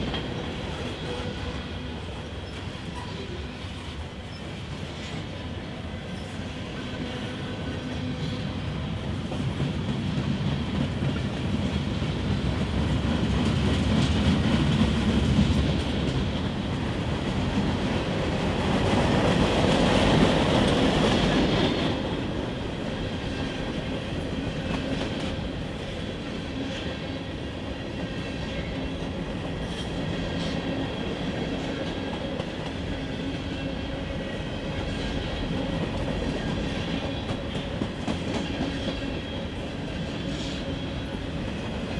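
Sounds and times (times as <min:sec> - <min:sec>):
freight train cars rumbling: 0:00.0 - 0:41.9.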